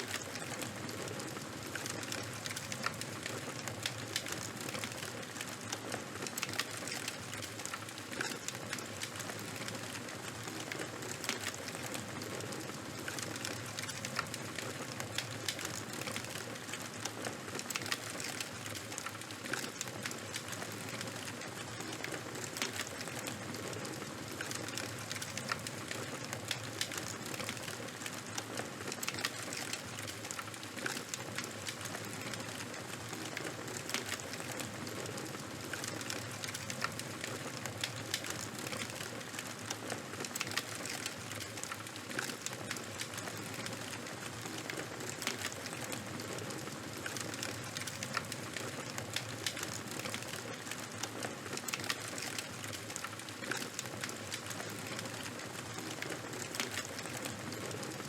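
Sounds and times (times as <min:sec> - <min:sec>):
fire hissing and crackling: 0:00.0 - 0:58.0.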